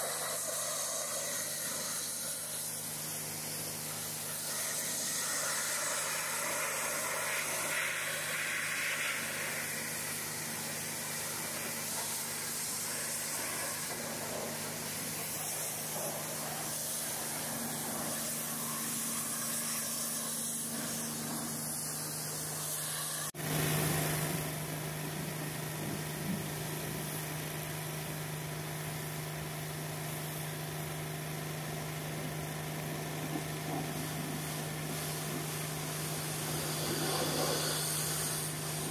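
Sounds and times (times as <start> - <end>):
pressure washer spray hissing: 0.0 - 25.4, 28.8 - 38.9.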